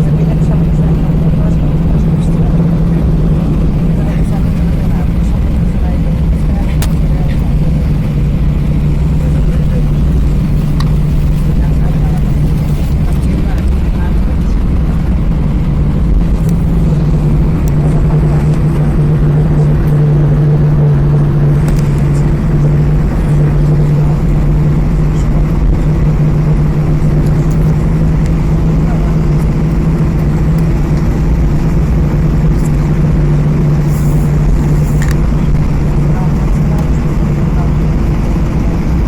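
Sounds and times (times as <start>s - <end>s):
aircraft cabin engine drone: 0.0s - 39.0s.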